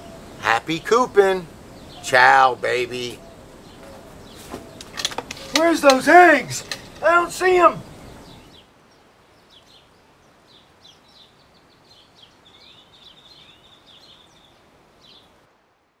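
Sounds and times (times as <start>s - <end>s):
small birds chirping and twittering: 0.0s - 15.4s
steady low hiss: 0.0s - 16.0s.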